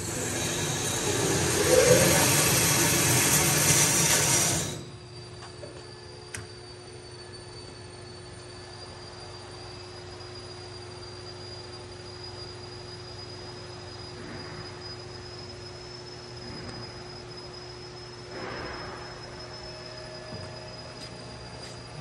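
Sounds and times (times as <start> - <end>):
band saw motor hum and whine: 0.0 - 22.0.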